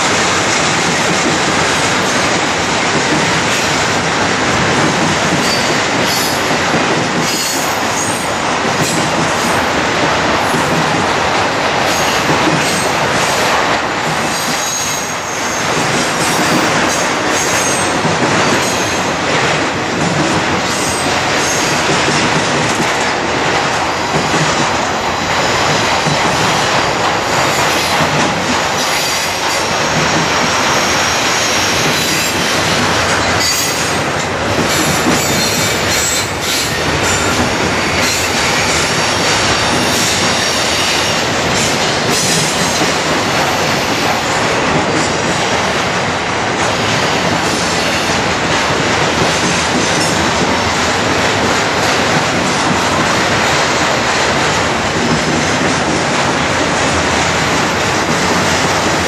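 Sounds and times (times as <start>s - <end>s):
train cars rolling on rails: 0.0s - 59.0s.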